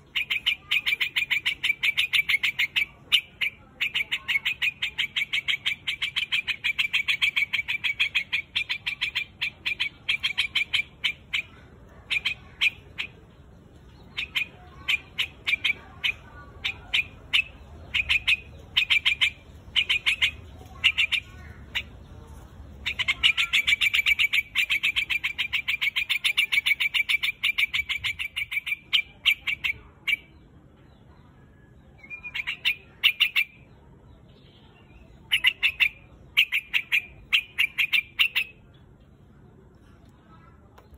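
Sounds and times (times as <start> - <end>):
bird chattering calls: 0.0 - 31.1, 32.0 - 39.4.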